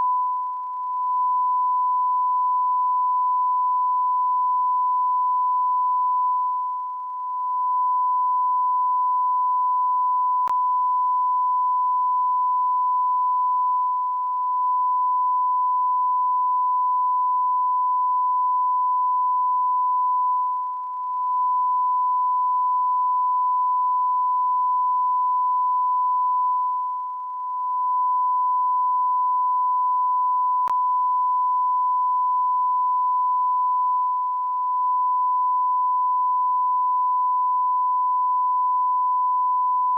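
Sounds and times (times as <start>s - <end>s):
electronic sine-wave beep: 0.0s - 39.9s.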